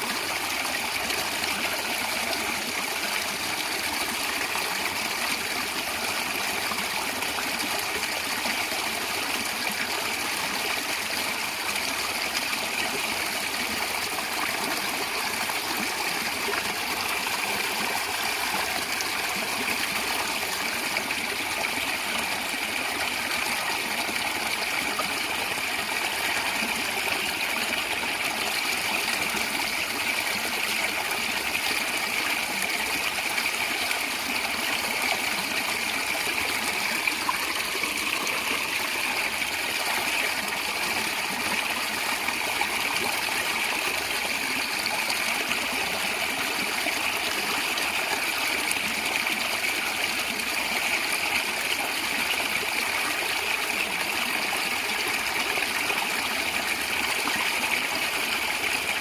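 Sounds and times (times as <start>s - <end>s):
stream gurgling over stones: 0.0s - 59.0s.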